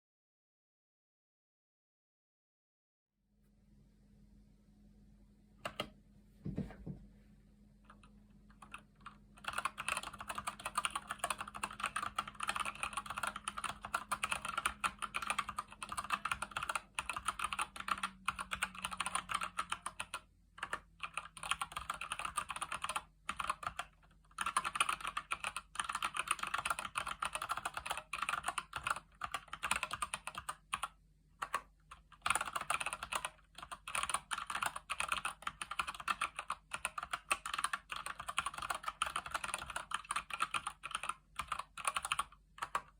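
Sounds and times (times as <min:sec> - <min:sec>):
fast mechanical keyboard typing: 0:07.9 - 0:42.9.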